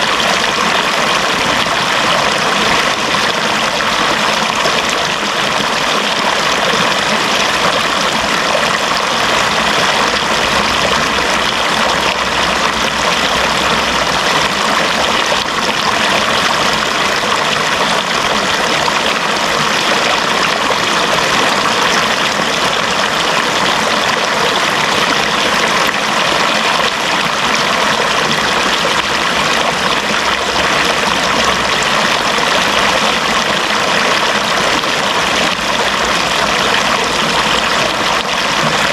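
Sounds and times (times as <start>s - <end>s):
water flowing steadily: 0.0s - 38.9s.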